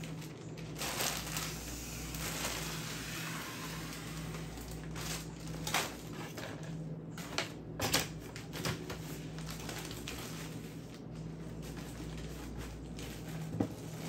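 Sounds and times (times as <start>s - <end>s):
paper and plastic crinkling: 0.0s - 14.0s.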